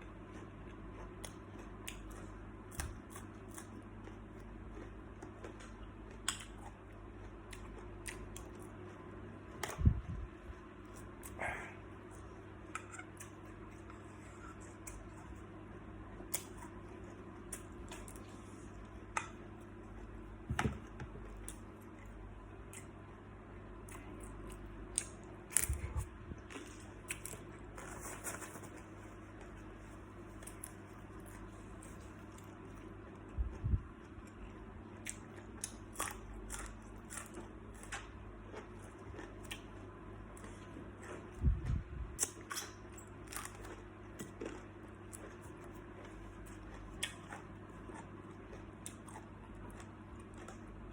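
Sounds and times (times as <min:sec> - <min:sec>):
crunchy chewing: 0:00.0 - 0:20.4, 0:23.8 - 0:50.9
steady low hum: 0:00.0 - 0:50.9.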